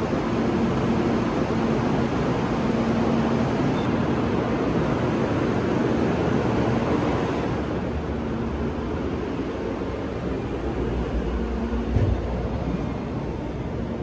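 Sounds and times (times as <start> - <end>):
train ventilation rushing noise: 0.0 - 14.0.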